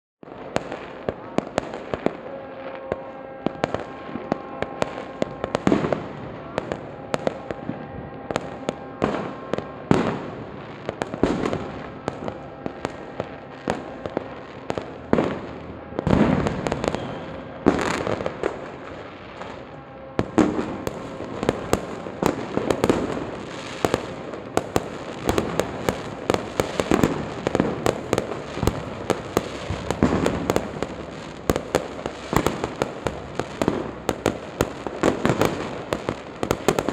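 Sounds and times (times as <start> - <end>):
firecrackers banging and popping: 0.2 - 36.9
fireworks booming: 0.2 - 36.9.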